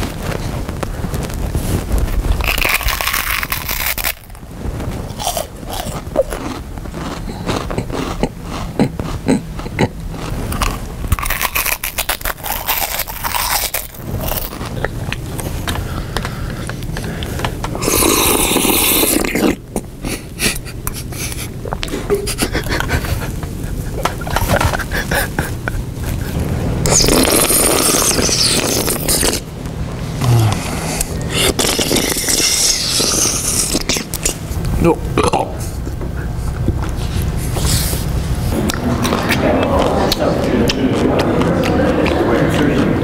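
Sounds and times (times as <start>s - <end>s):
loud chewing and crunching: 2.3s - 4.5s, 5.1s - 29.5s, 30.5s - 43.0s.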